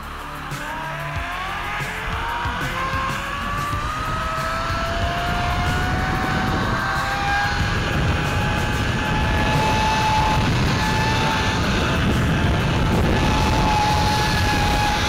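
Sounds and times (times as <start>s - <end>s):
zipline pulleys whining on cable: 0.0s - 15.0s
wind buffeting microphone: 1.9s - 15.0s.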